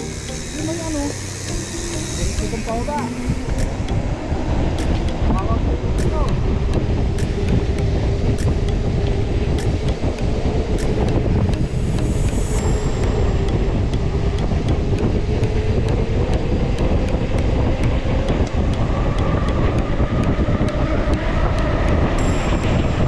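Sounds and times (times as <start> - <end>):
faint even ticks: 0.0 - 4.1, 4.7 - 23.0
hum rising in pitch: 0.0 - 23.0
wind rushing on microphone: 0.0 - 23.0.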